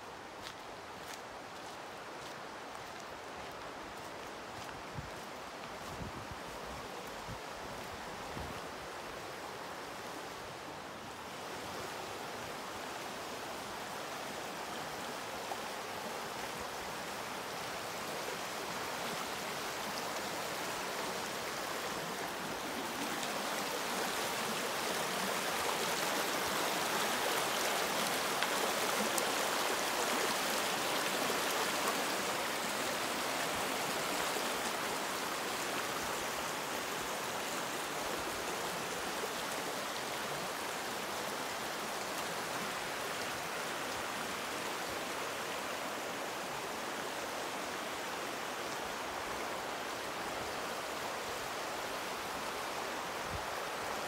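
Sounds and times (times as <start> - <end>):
river rushing over stones: 0.0 - 54.0.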